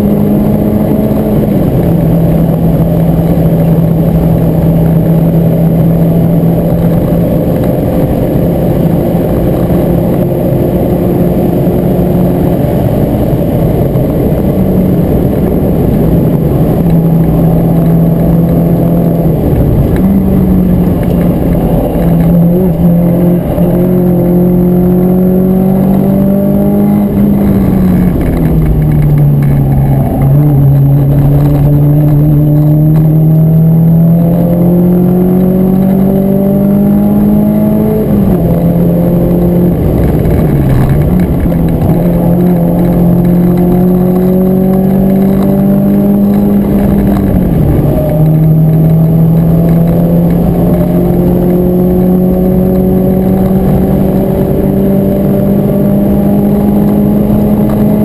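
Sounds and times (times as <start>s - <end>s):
car engine under load from cabin: 0.0s - 58.0s.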